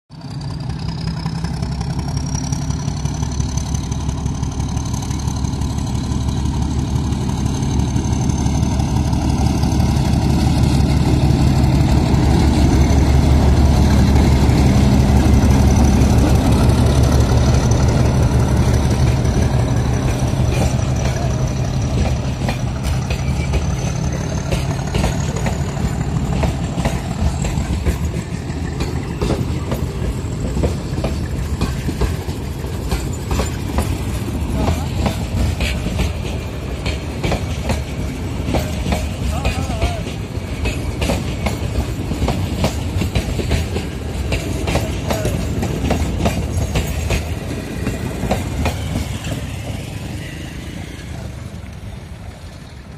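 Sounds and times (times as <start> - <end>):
diesel locomotive engine rumble: 0.1 - 52.9.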